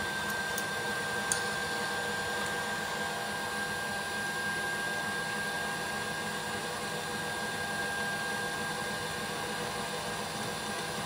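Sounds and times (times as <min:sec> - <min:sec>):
electric mixer running: 0:00.0 - 0:11.0.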